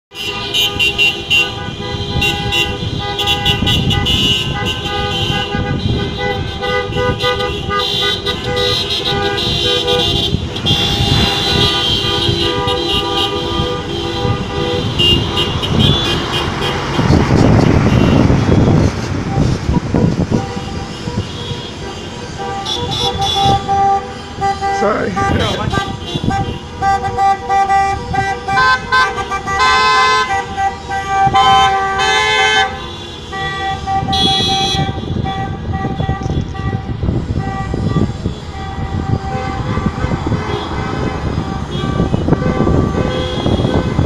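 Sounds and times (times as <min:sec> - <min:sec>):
car horns sounding: 0:00.1 - 0:44.0
truck passing: 0:04.4 - 0:35.7, 0:36.8 - 0:44.0.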